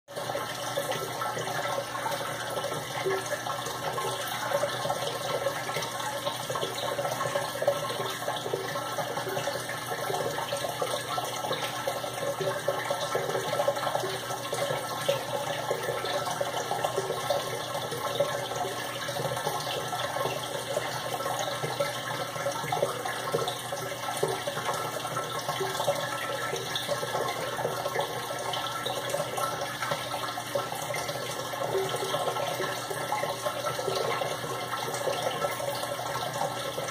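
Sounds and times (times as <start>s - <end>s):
water splashing into an aquarium: 0.1s - 36.9s.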